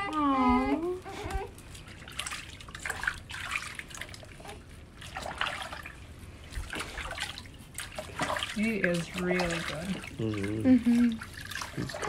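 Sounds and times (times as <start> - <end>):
water splashing in baby bath: 0.0 - 12.0.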